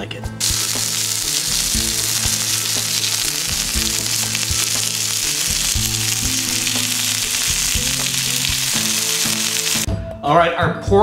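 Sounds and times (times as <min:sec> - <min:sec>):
background music: 0:00.0 - 0:11.0
meat sizzling on grill: 0:00.4 - 0:09.9.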